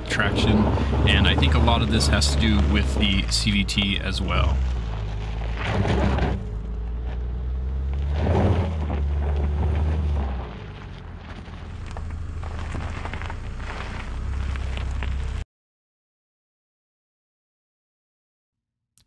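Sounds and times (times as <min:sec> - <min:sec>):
car engine straining uphill: 0:00.0 - 0:15.4
tyres crunching over gravel: 0:00.0 - 0:15.4.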